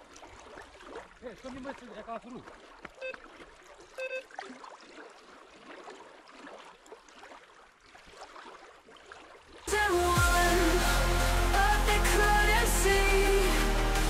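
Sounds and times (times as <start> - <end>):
soft water sounds: 0.0 - 14.0.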